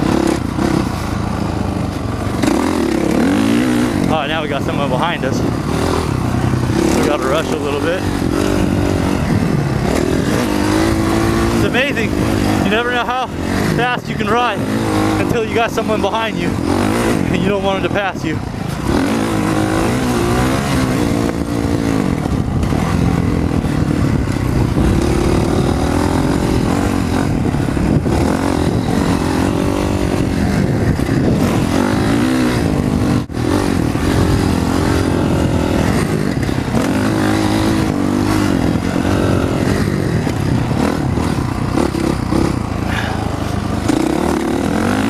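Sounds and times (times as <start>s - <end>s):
motorcycle engine revving: 0.0s - 45.0s
wind noise on microphone: 0.0s - 45.0s.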